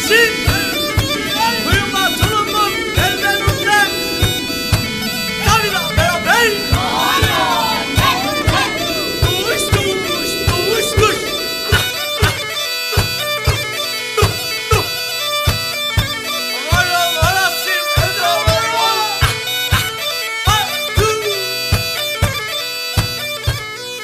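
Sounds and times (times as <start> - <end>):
steady drum beat: 0.0 - 23.7
bagpipe melody: 0.0 - 24.0.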